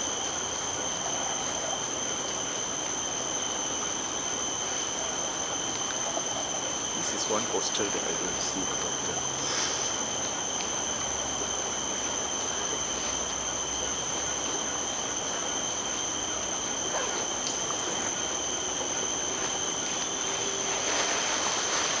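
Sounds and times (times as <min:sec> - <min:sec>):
insects calling: 0:00.0 - 0:22.0.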